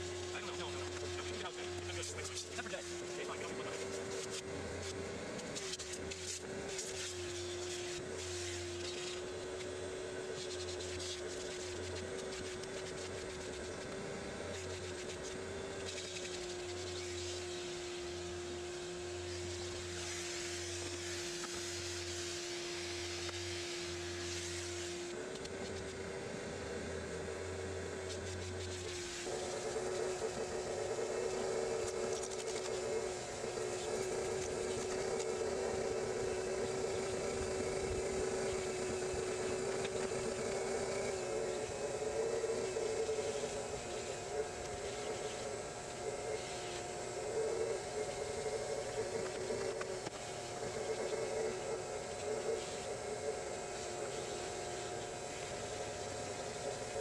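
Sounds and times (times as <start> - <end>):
lower hum: 0.0 - 57.0
machine humming: 0.0 - 57.0.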